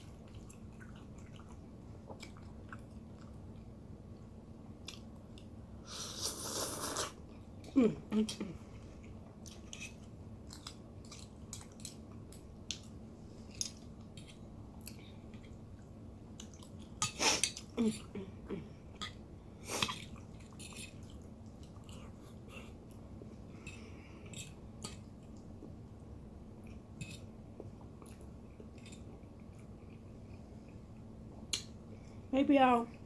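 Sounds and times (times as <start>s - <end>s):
person chewing wetly: 0.0s - 5.6s, 8.7s - 18.1s, 18.8s - 25.8s, 26.6s - 32.2s.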